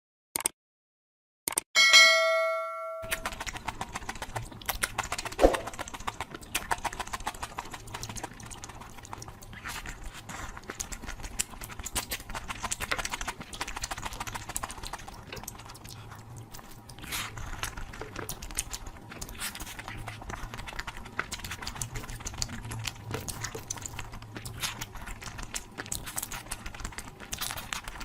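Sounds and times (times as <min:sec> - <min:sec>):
wet chewing clicks: 0:03.1 - 0:28.0.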